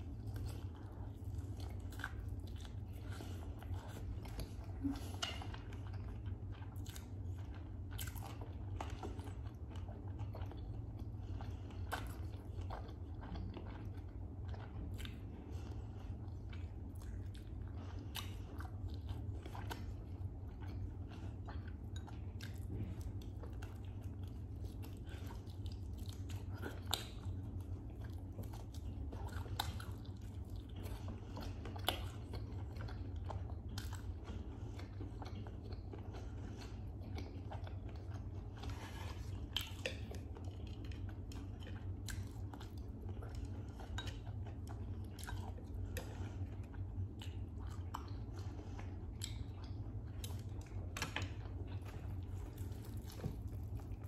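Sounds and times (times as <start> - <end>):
close chewing and biting: 0.0 - 54.0
steady low hum: 0.0 - 54.0.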